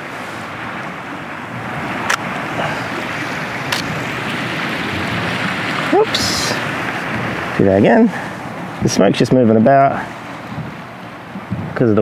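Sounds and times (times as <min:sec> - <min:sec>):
waves washing over pebbles: 0:00.0 - 0:12.0.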